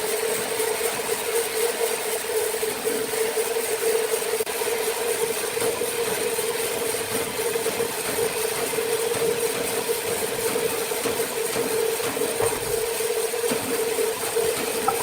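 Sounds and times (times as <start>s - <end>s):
sawmill machinery hum: 0.0s - 15.0s.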